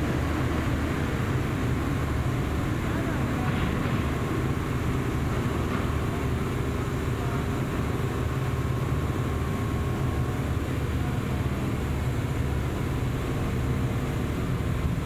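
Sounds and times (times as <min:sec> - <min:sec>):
diesel train engine running: 0:00.0 - 0:15.0.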